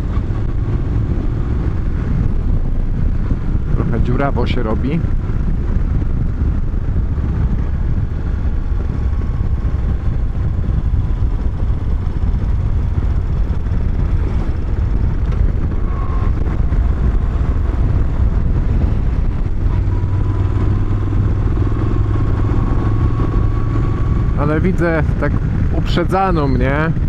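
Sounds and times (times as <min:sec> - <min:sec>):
motorcycle engine cruising: 0:00.0 - 0:27.0
wind rumble on microphone: 0:00.0 - 0:27.0.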